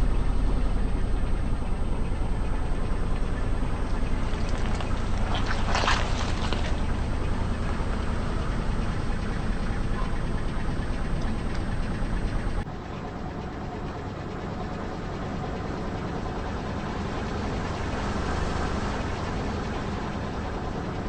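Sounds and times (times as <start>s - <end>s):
car engine low rumble: 0.0s - 21.0s.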